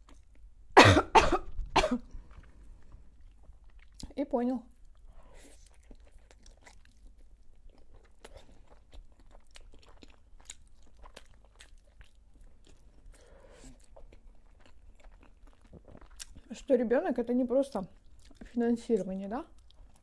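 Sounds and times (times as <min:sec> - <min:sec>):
chewing with wet mouth clicks: 0:02.3 - 0:16.6, 0:17.9 - 0:20.0.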